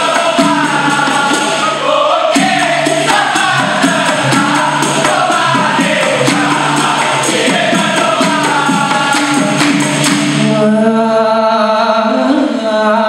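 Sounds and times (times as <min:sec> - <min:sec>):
hand drums and percussion: 0:00.0 - 0:10.7
lead voice singing: 0:00.0 - 0:13.0
male voices singing in unison: 0:00.0 - 0:13.0.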